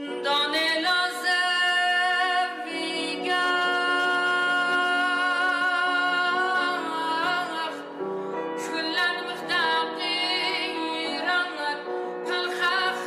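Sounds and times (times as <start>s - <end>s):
person singing with vibrato: 0.0s - 8.0s, 8.6s - 13.0s.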